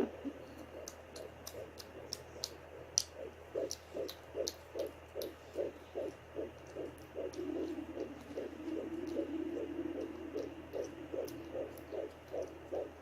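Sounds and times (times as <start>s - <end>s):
doppler hiss: 0.0s - 13.0s
fast fetal heartbeat pulse: 0.0s - 13.0s.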